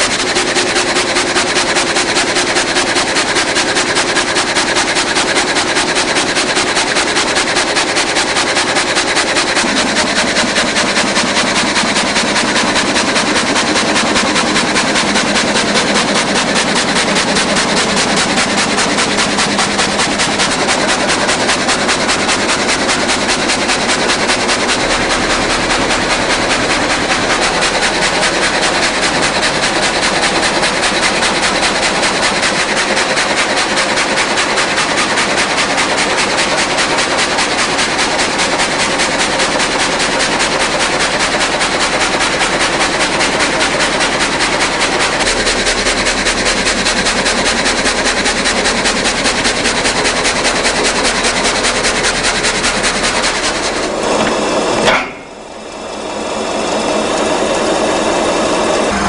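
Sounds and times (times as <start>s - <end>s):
rip saw machine rattling: 0.0s - 59.0s.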